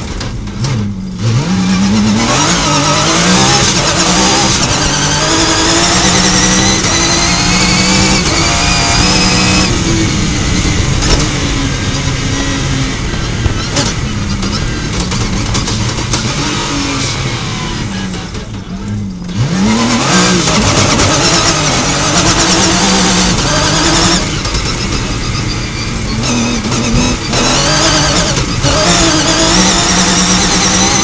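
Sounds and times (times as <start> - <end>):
rally car engine revving: 0.0 - 31.0
rumble from dirt track: 0.0 - 31.0.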